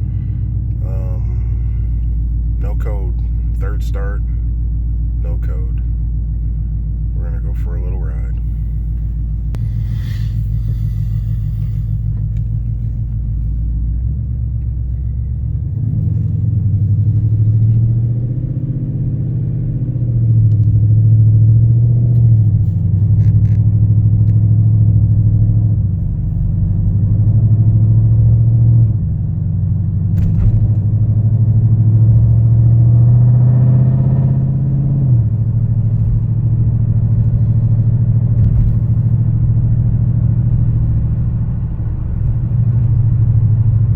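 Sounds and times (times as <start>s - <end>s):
car engine droning while driving: 0.0s - 43.9s.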